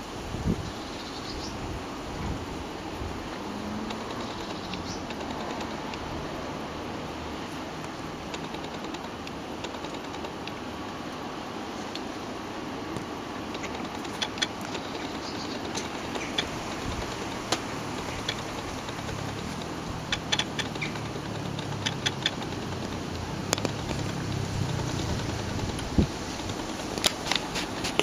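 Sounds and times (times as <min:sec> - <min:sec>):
sharp little clicks: 0:03.2 - 0:06.8, 0:07.4 - 0:11.2, 0:12.9 - 0:28.0.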